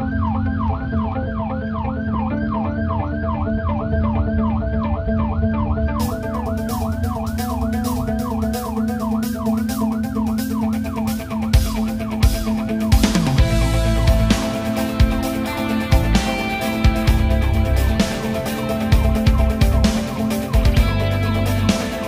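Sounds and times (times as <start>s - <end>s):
siren yelping: 0.0s - 22.0s.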